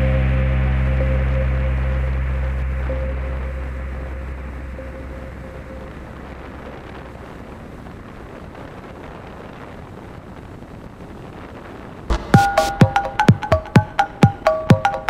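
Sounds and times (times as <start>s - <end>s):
wind rushing over microphone: 0.0s - 12.1s.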